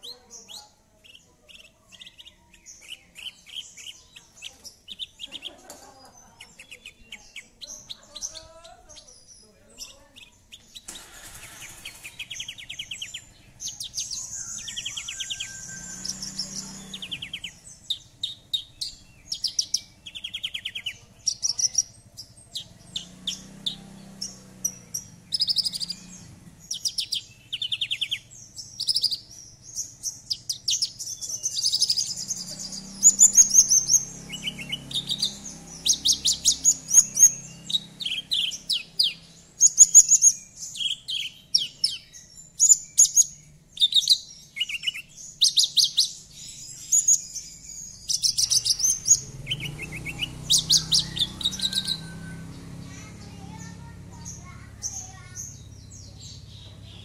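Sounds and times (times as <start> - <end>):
bird singing trills and chirps: 0.0 - 57.0.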